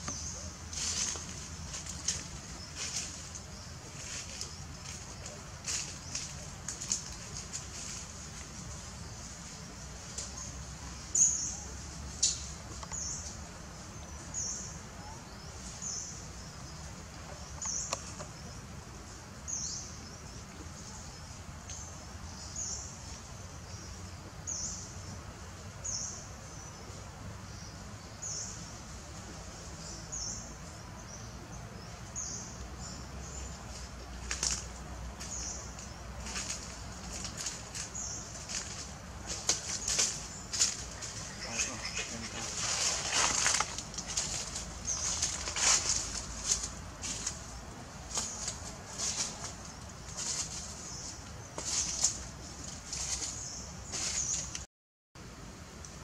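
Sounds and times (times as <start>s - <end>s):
low background hiss: 0.0s - 54.6s.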